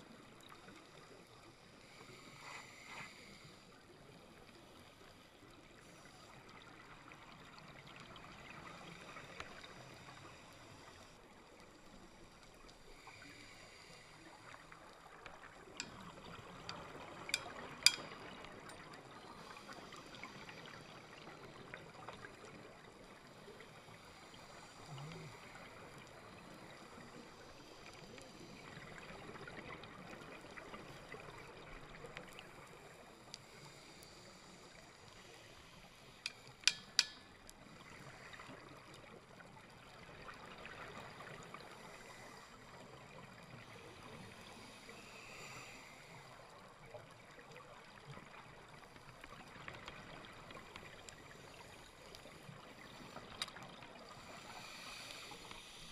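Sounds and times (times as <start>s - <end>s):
underwater water hiss: 0.0s - 55.9s.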